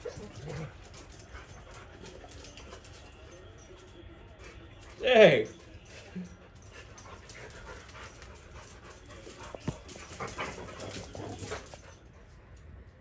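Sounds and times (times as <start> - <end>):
dogs panting: 0.0 - 12.8.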